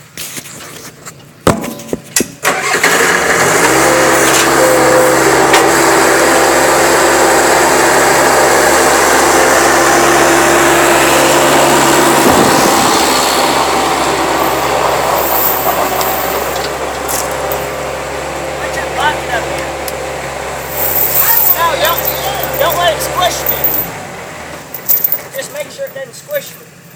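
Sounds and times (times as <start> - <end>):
engine running: 1.5 - 26.9.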